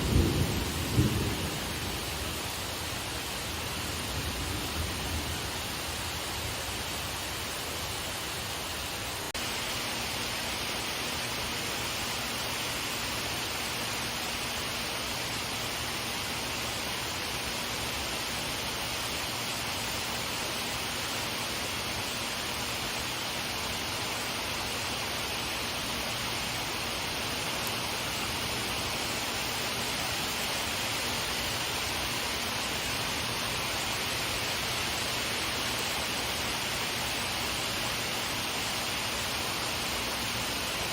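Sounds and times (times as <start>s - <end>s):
rain shower falling: 0.0s - 40.9s.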